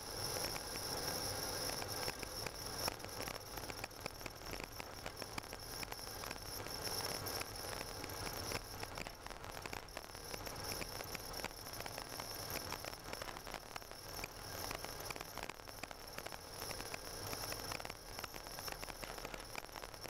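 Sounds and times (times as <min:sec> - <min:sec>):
small crackles: 0:00.1 - 0:20.0.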